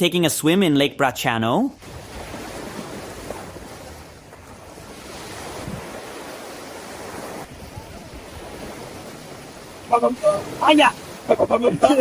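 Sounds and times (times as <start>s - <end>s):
small waves washing on beach: 1.7s - 12.0s
wind buffeting microphone: 1.8s - 12.0s.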